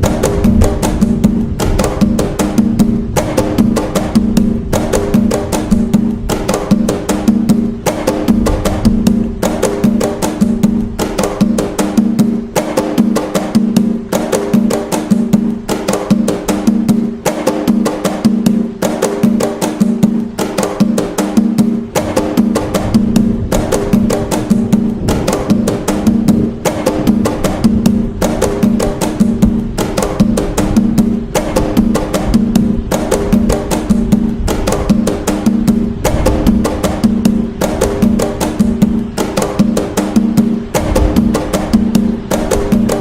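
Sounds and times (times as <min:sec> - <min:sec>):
hand drumming: 0:00.0 - 0:43.0.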